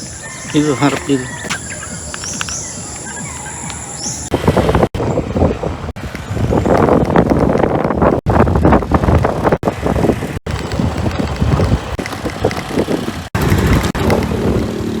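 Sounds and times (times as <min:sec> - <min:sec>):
scooter engine drone: 0:00.0 - 0:07.3, 0:08.9 - 0:15.0
wind buffeting microphone: 0:00.0 - 0:15.0.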